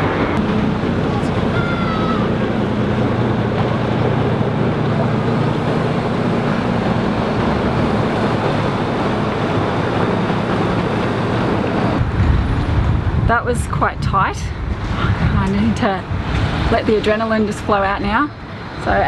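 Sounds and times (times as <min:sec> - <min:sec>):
boat engine running: 0:00.0 - 0:19.0
wind noise on microphone: 0:00.0 - 0:19.0.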